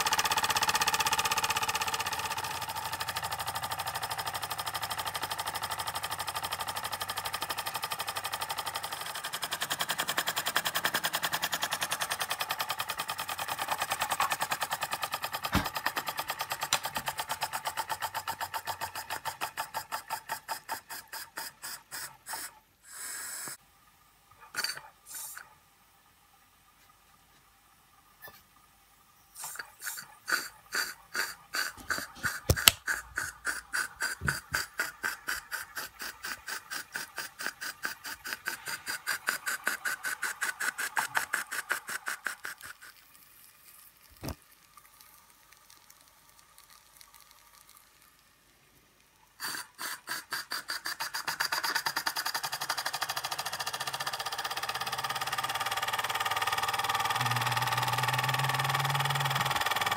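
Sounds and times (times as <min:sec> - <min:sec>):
toy steam engine chuffing: 0:00.0 - 0:23.6, 0:24.5 - 0:25.5, 0:29.4 - 0:43.0, 0:49.4 - 0:59.9.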